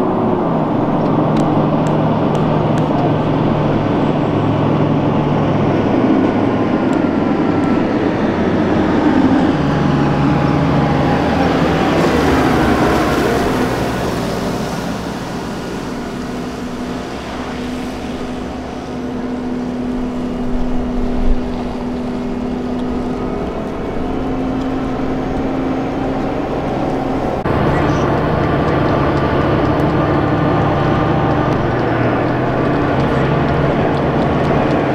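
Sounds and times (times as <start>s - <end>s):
armoured vehicle driving past: 0.0s - 34.9s.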